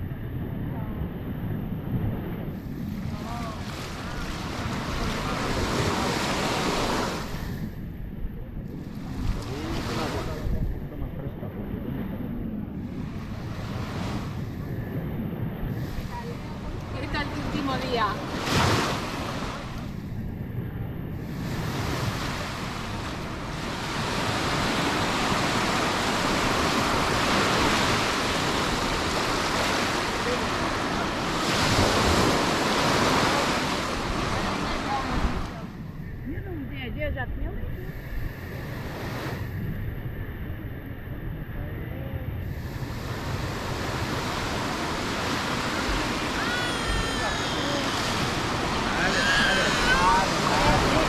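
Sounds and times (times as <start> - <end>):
wind buffeting microphone: 0.0 - 51.0
sea waves breaking on beach: 1.9 - 8.0, 8.7 - 11.0, 12.4 - 36.8, 37.6 - 40.1, 42.2 - 51.0.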